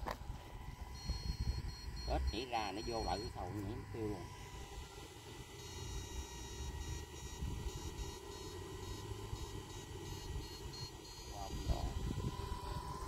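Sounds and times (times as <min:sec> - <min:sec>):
high-pitched electronic whine: 0:00.0 - 0:13.0
steady low rumble: 0:00.0 - 0:13.0.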